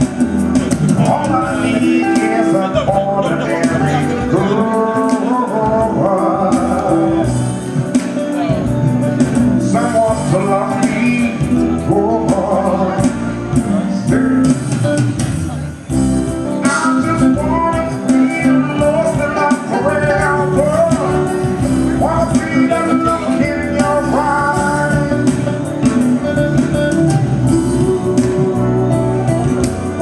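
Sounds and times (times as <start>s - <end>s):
amplified music: 0.0s - 30.0s
man singing through microphone: 0.0s - 30.0s.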